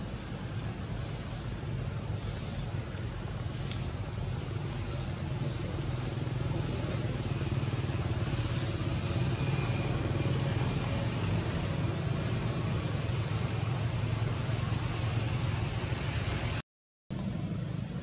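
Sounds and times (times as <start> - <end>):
constant hiss: 0.0 - 18.0.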